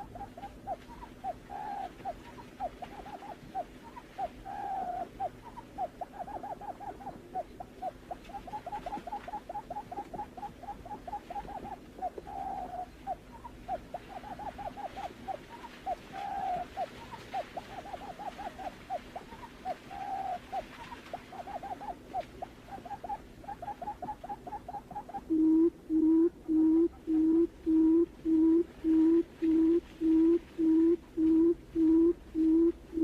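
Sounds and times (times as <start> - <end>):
bird hooting call: 0.0 - 33.0
faint steady hum: 0.0 - 33.0.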